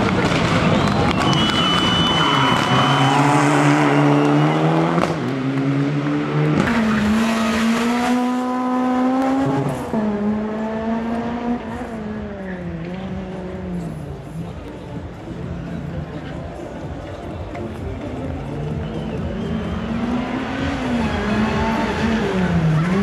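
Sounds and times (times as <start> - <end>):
rally car engine revving: 0.0 - 14.4, 18.0 - 23.0.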